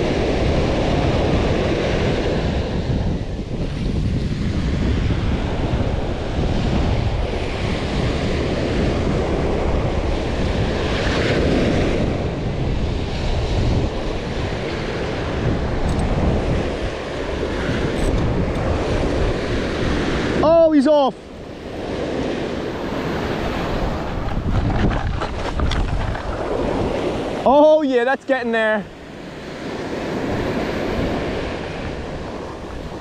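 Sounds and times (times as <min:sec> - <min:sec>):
surf washing up sand: 0:00.0 - 0:33.0
wind buffeting microphone: 0:00.0 - 0:33.0.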